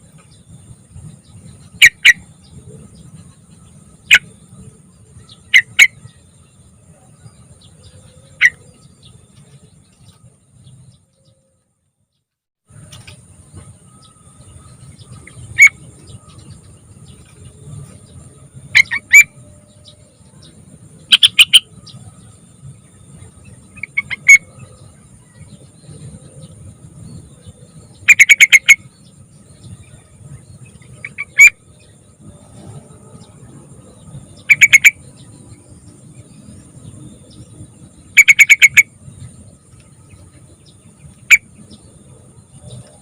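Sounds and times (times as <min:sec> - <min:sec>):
bulbul singing: 0:00.0 - 0:11.4, 0:13.0 - 0:32.5, 0:33.1 - 0:42.9.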